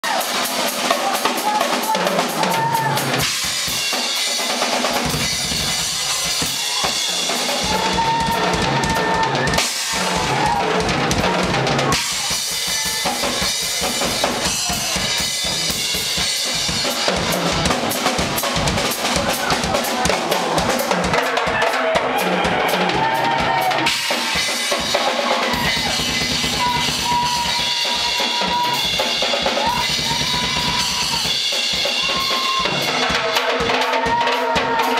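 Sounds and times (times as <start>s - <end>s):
bass drum and snare beat: 0.0s - 34.9s
live rock band playing: 0.0s - 34.9s.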